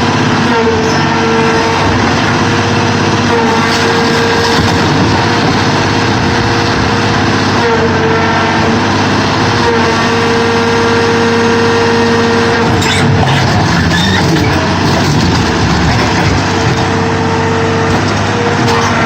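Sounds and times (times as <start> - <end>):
hydraulic whine: 0.0 - 19.0
scrap baler engine and hydraulics drone: 0.0 - 19.0.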